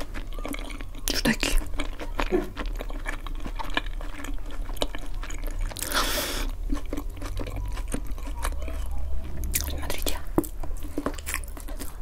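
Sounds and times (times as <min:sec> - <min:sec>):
wet chewing mouth sounds: 0:00.0 - 0:12.0.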